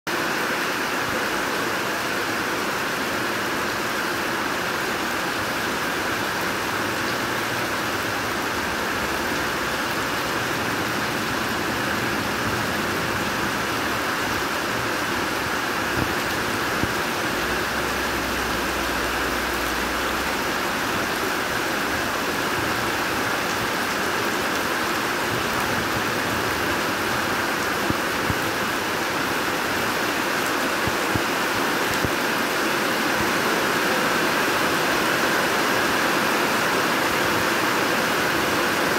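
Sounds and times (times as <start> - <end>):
rain on gravel and puddles: 0.1 - 38.9.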